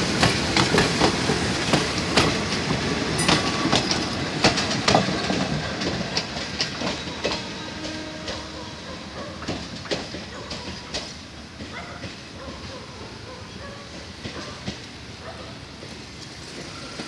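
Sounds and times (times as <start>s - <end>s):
train rumble: 0.0s - 17.0s
train wheels clacking over rail joints: 0.0s - 17.0s.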